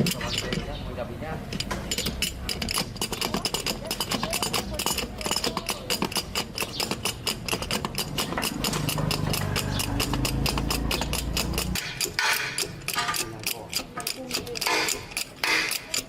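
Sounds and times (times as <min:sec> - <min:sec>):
machine ticking: 0:01.5 - 0:16.0.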